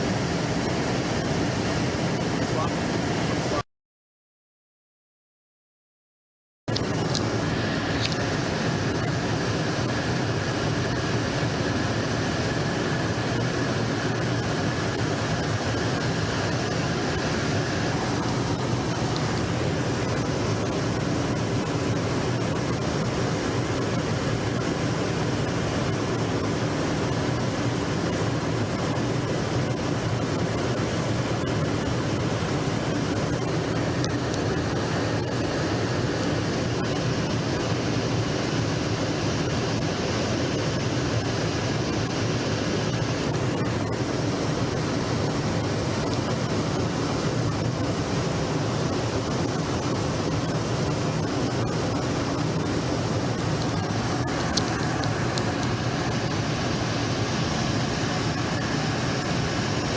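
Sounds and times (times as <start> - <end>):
jet aircraft roar: 0.0 - 3.6, 6.7 - 59.9.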